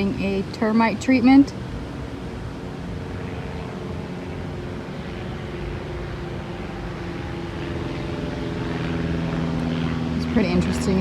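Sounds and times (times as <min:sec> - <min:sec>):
engine drone: 0:00.0 - 0:11.0
noisy wash: 0:00.0 - 0:11.0.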